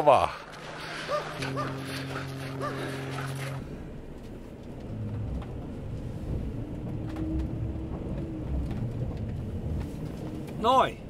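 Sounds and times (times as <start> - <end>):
engine and road rumble: 0.0 - 11.0
faint engine hum: 0.3 - 11.0.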